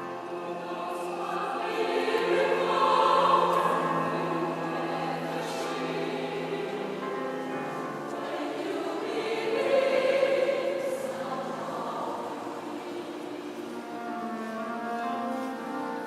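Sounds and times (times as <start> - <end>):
choir singing sacred music: 0.0 - 16.0.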